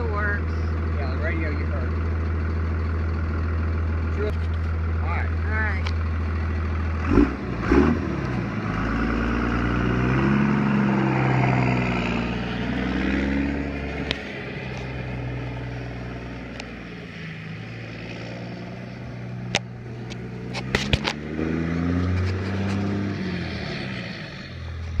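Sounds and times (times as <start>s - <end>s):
diesel truck engine driving: 0.0s - 25.0s.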